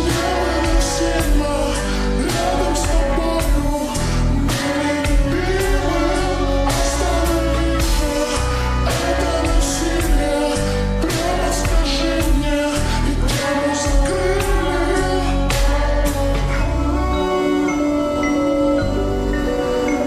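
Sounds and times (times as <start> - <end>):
person singing: 0.0 - 20.0
slowed pop song with reverb: 0.0 - 20.0.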